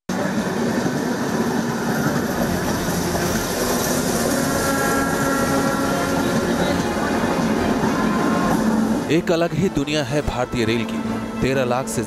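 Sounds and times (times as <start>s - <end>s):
passenger train running on rails: 0.1s - 12.0s.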